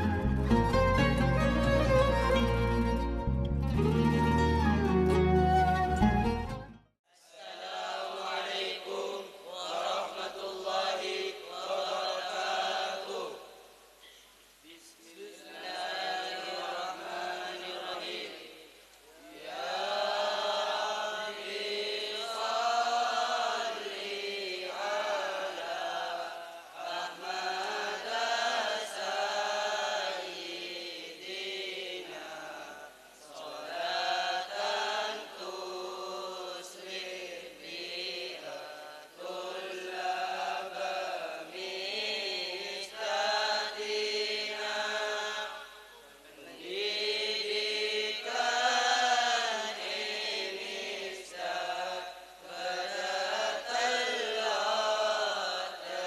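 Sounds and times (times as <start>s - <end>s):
boys chanting in unison: 7.1s - 13.8s, 15.0s - 56.0s.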